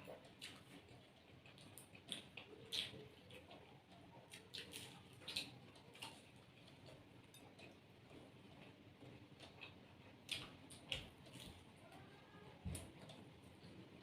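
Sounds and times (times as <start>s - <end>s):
crunchy chewing: 0.0s - 11.9s.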